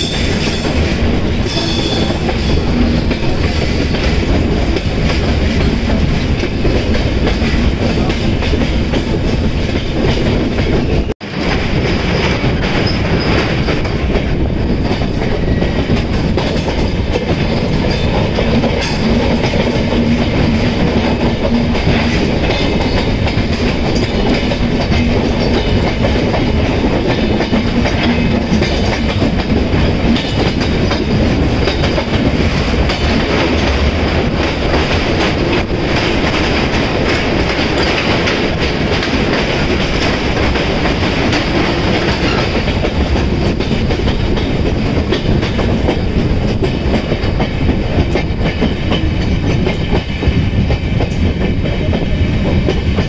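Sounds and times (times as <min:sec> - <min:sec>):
train wheels clickety-clack: 0:00.0 - 0:53.0.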